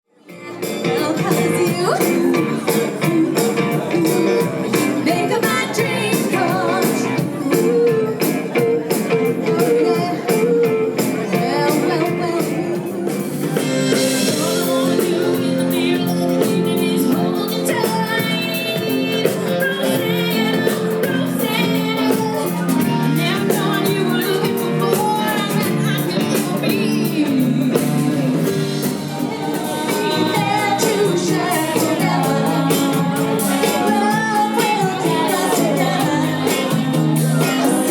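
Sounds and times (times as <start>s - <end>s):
live band playing soft rock: 0.2s - 37.9s
people singing: 0.7s - 37.9s.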